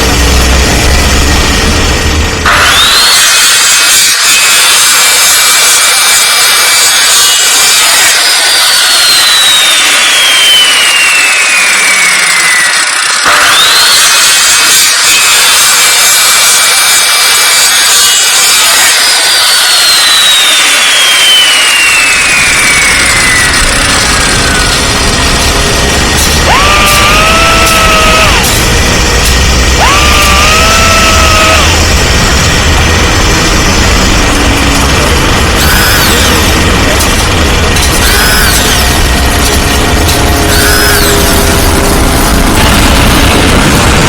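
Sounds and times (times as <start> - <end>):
high-speed motor whining: 0.0 - 44.0.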